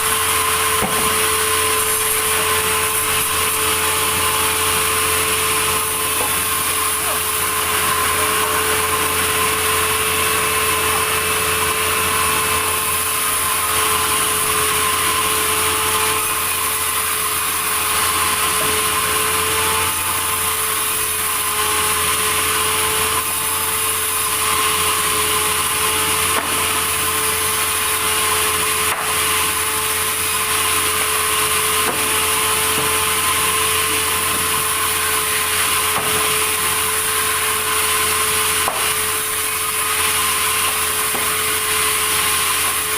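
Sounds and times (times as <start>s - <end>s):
saw cutting through log: 0.0s - 42.9s.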